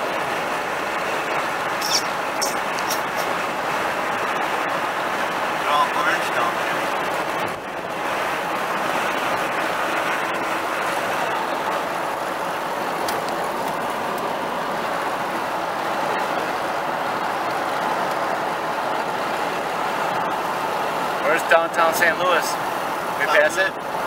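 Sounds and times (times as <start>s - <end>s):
road and engine noise: 0.0s - 24.0s.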